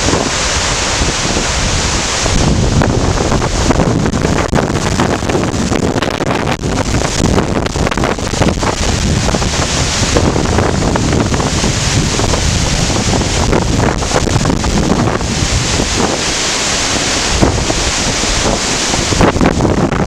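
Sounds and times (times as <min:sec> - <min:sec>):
heavy rain hiss: 0:00.0 - 0:20.0
wind gusting on microphone: 0:00.0 - 0:20.0.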